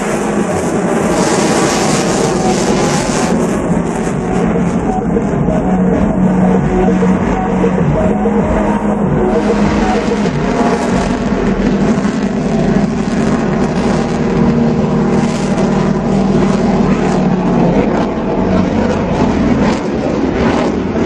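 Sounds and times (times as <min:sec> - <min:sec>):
fighter jet engines roaring: 0:00.0 - 0:21.0
steady low hum: 0:00.0 - 0:21.0.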